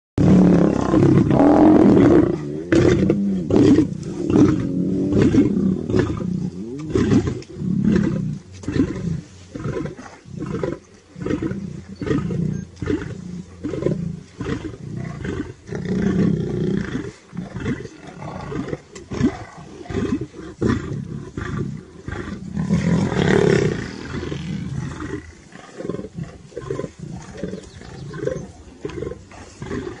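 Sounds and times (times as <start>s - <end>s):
lions growling: 0.2s - 30.0s.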